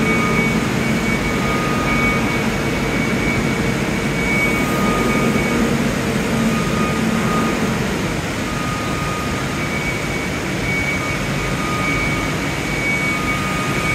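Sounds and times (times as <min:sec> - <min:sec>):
faint hydraulic whine: 0:00.0 - 0:13.9
forklift engine drone: 0:00.0 - 0:13.9.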